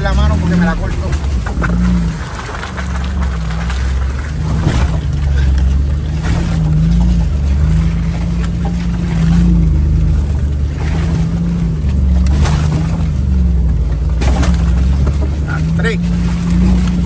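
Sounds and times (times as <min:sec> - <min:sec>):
jeep engine running at low revs: 0:00.0 - 0:17.0
vehicle knocks and rattles: 0:00.0 - 0:17.0.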